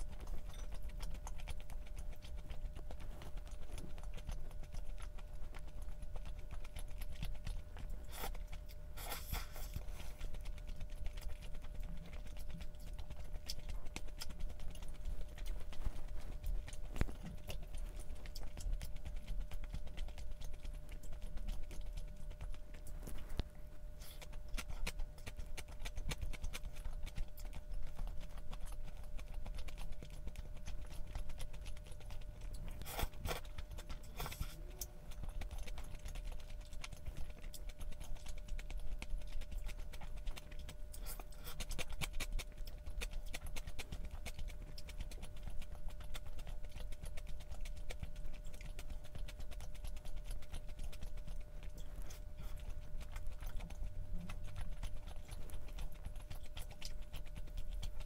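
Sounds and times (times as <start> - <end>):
faint steady hum: 0.0 - 58.0
person chewing: 0.0 - 58.0.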